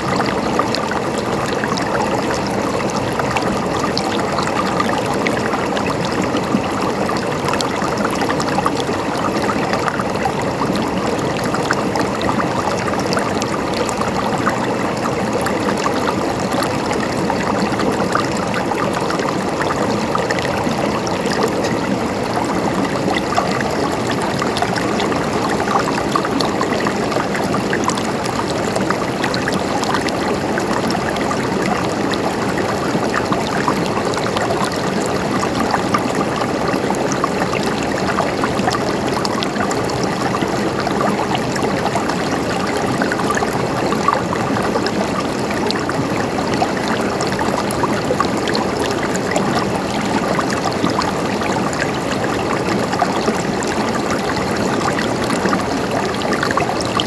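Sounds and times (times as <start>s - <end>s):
stream water gurgling over rocks: 0.0s - 57.0s.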